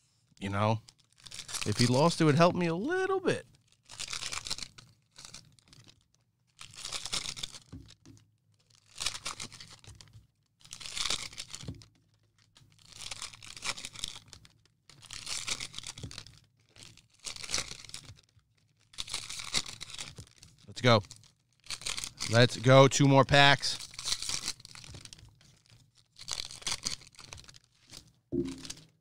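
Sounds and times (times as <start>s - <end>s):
wrappers being torn open: 0.9s - 2.2s, 3.6s - 22.7s, 23.8s - 28.8s.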